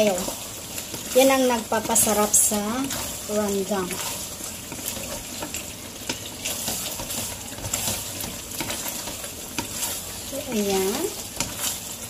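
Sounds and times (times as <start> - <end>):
food sizzling in oil in a pan: 0.0 - 12.0
wooden spatula scraping a pan: 0.0 - 12.0.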